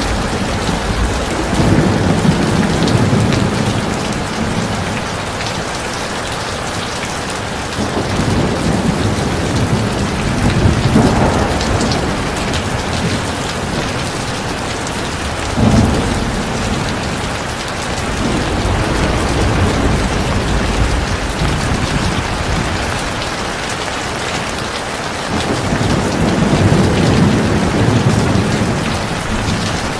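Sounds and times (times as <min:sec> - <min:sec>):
heavy rain falling: 0:00.0 - 0:29.9
thunder rumbling: 0:00.0 - 0:29.9.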